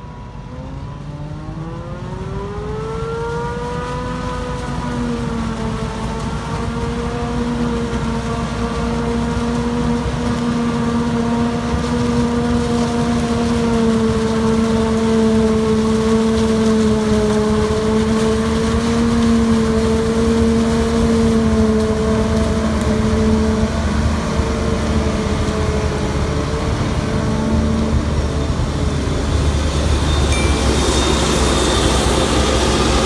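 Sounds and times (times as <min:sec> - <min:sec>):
forage harvester droning: 0:00.0 - 0:33.0.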